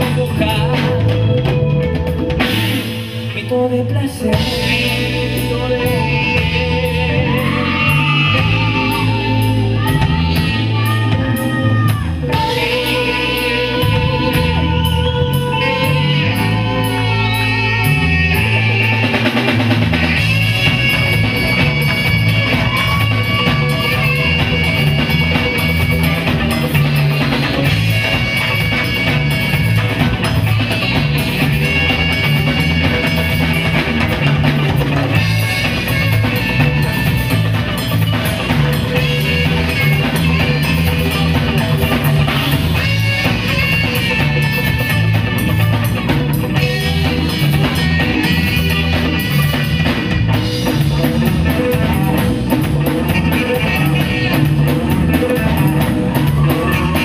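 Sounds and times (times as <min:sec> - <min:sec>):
saxophone: 0:00.0 - 0:03.4, 0:04.2 - 0:57.0
bass guitar: 0:00.0 - 0:57.0
congas: 0:00.0 - 0:57.0
drum kit: 0:00.0 - 0:57.0
electric guitar: 0:00.0 - 0:57.0.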